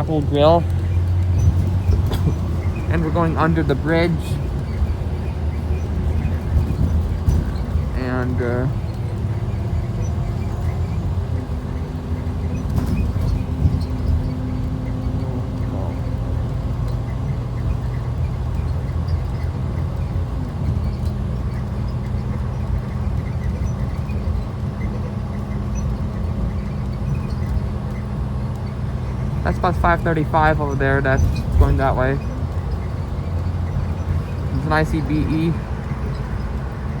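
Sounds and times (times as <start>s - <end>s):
bus diesel engine drone: 0.0s - 37.0s
road rumble: 0.0s - 37.0s.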